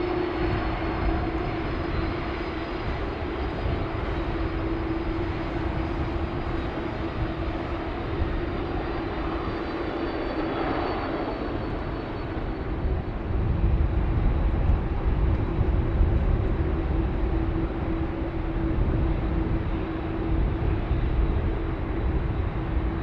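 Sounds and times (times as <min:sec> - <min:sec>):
jet engine whine: 0:00.0 - 0:23.0.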